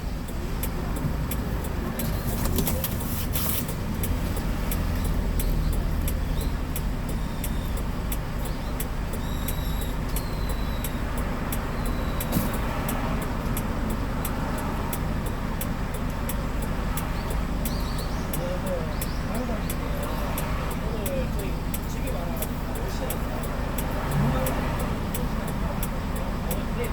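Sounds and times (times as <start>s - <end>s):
faint regular ticking: 0.0s - 26.9s
truck engine and road rumble: 0.0s - 26.9s.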